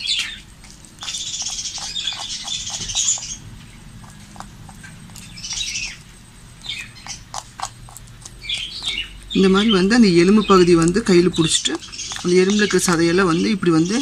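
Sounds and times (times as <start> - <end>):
small birds chirping and chattering: 0.0 - 14.0.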